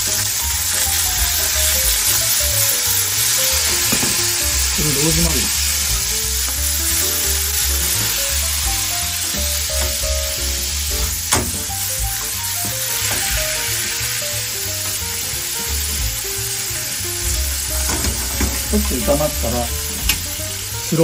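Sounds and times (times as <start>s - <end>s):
food sizzling in oil: 0.0s - 21.0s
soft background music: 0.0s - 21.0s.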